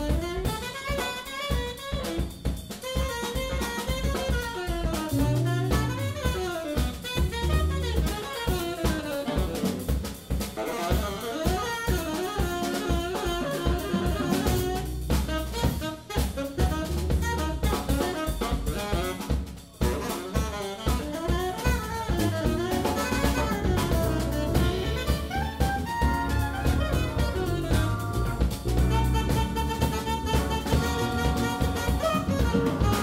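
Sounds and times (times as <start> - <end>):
drum kit playing busily: 0.0 - 33.0
saxophone and brass lines: 0.0 - 33.0
bass line: 3.2 - 10.0, 12.0 - 20.3, 20.9 - 33.0.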